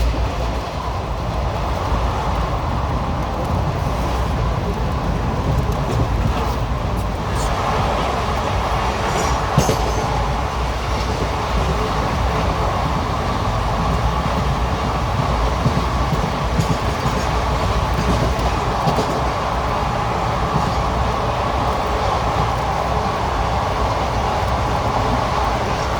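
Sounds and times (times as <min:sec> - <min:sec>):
sharp track clacks: 0:00.0 - 0:25.9
train wheels rumbling on rail: 0:00.0 - 0:25.9.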